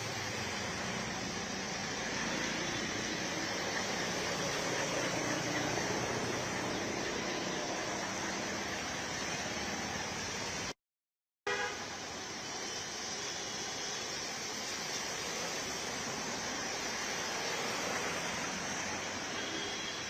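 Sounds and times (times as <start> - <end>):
water on a flooded street: 0.0 - 10.7, 11.5 - 20.0
road traffic: 0.0 - 10.8, 11.5 - 20.0.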